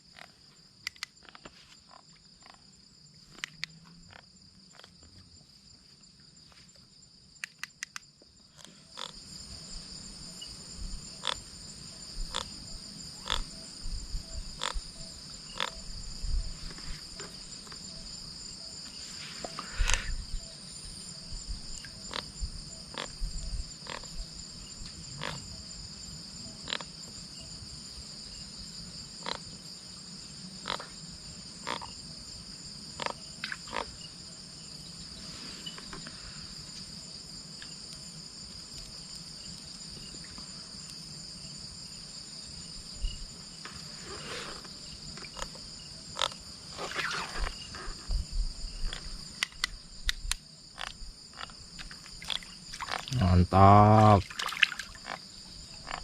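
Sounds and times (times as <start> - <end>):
night insects chirping: 0.0 - 56.0.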